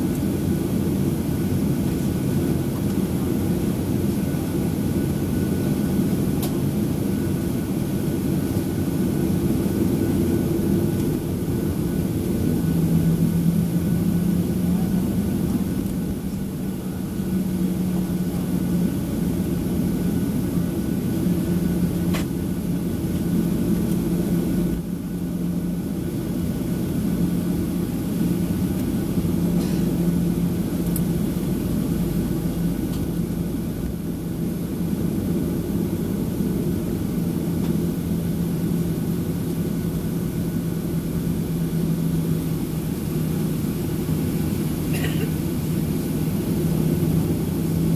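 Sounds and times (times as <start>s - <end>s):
jet engine drone in cabin: 0.0s - 47.9s.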